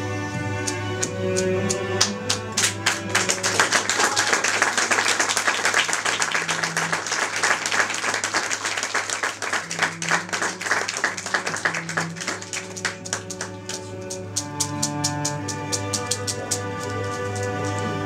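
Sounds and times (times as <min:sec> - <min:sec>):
audience applause: 0:01.4 - 0:18.0.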